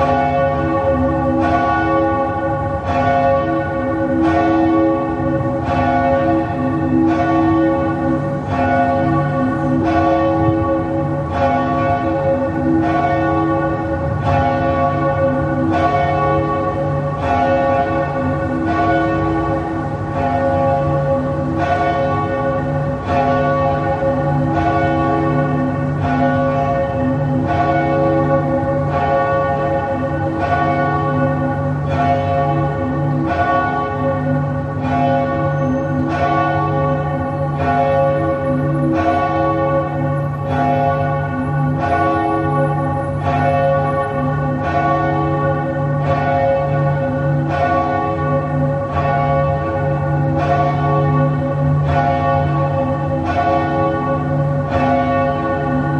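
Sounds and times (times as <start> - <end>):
church bell tolling: 0.0 - 55.9.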